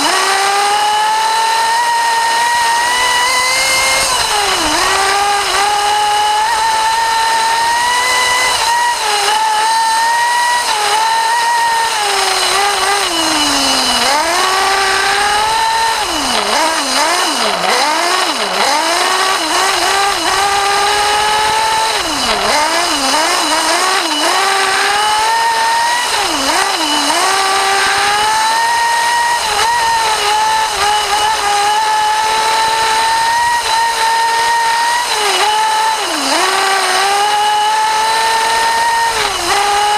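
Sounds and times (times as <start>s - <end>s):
small nitro engine revving: 0.0s - 39.9s.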